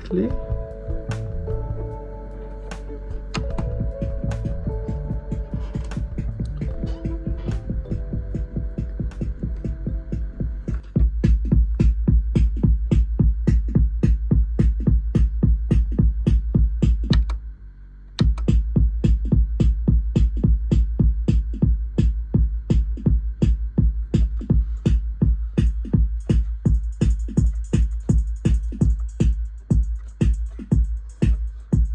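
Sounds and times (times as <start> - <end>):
drum machine beat: 0.0 - 17.4, 18.2 - 31.9
low bass: 0.0 - 31.9.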